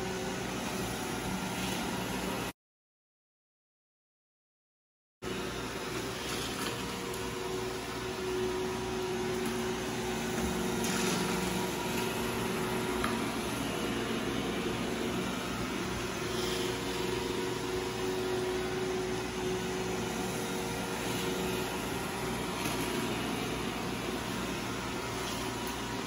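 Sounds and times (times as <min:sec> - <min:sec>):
robot vacuum motor and brush hum: 0:00.0 - 0:02.5, 0:05.3 - 0:26.0.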